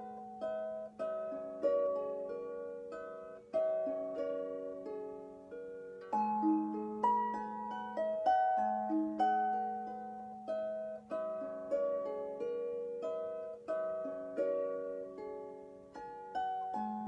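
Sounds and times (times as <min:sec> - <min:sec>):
harp melody: 0:00.0 - 0:17.0.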